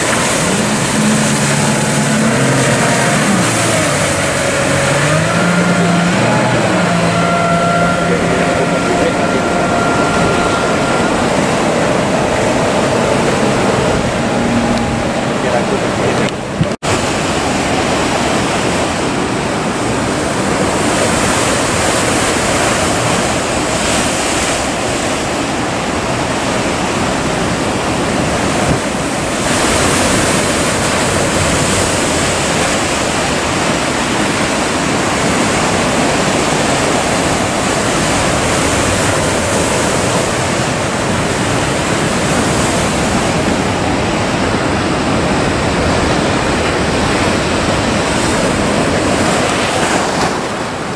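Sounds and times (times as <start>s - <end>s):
heavy surf breaking: 0.0s - 50.9s.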